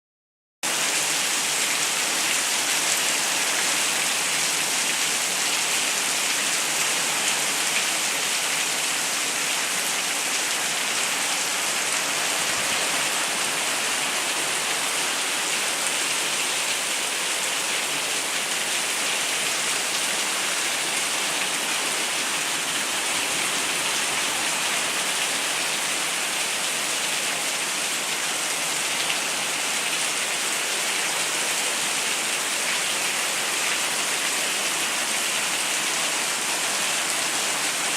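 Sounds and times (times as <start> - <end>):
heavy rain pouring: 0.7 - 37.9.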